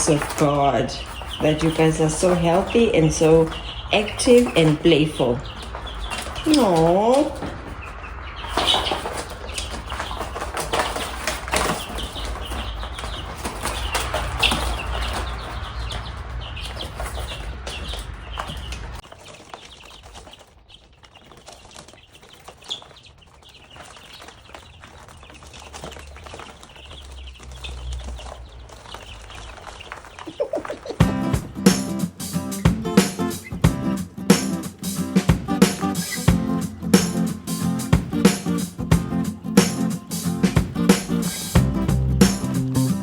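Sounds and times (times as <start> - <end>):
chickens clucking: 0.0 - 43.0
chickens flapping wings: 0.0 - 43.0.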